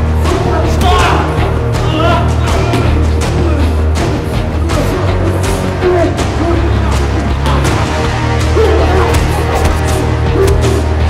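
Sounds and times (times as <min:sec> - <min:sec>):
action film score music: 0:00.0 - 0:11.0.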